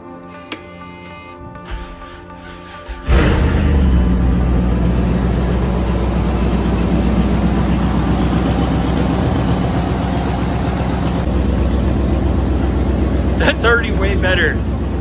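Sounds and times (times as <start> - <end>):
car engine idling: 3.0 - 15.0.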